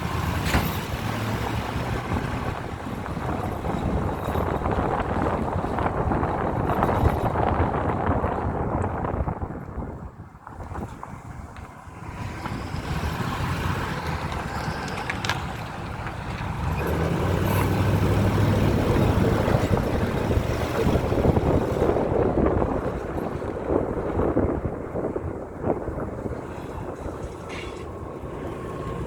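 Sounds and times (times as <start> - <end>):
pickup truck engine running: 0.0 - 29.0.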